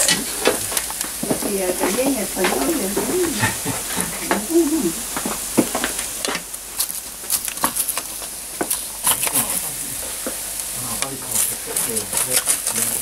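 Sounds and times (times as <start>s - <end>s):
food sizzling in a metal pan: 0.0s - 13.0s
sharp crackles: 0.0s - 13.0s.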